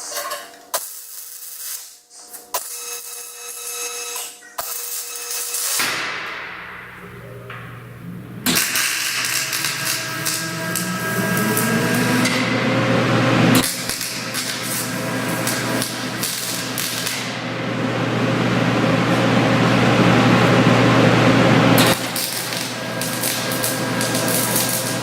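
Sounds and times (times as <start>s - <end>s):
welder arc crackling: 0.8s - 2.0s, 2.6s - 20.7s, 21.4s - 25.0s.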